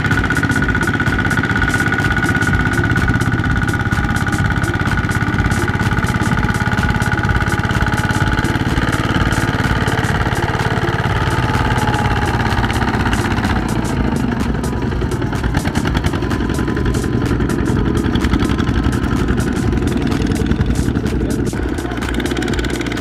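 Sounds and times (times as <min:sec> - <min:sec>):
diesel engine chugging: 0:00.0 - 0:23.0
trailer clattering: 0:00.0 - 0:23.0.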